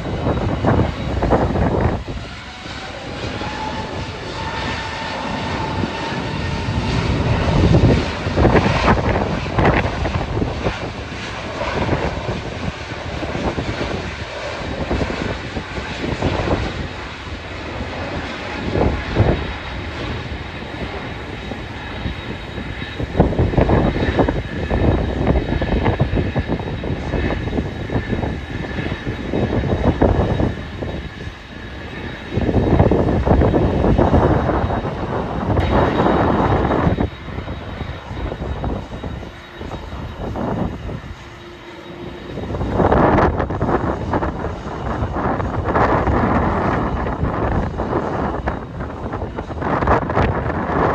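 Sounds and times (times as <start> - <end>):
airliner engines whining: 0.0 - 50.9
wind buffeting microphone: 0.0 - 50.9.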